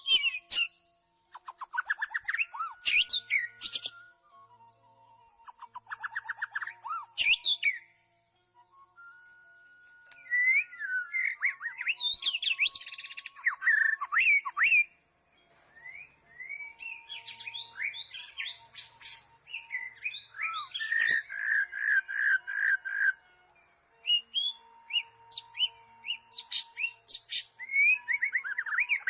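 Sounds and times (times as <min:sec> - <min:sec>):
bird singing whistles and trills: 0:00.0 - 0:29.0.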